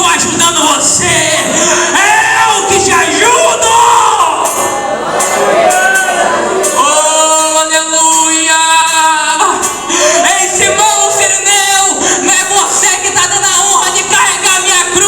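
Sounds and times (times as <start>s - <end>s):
music: 0.0s - 15.0s
person singing: 0.0s - 15.0s.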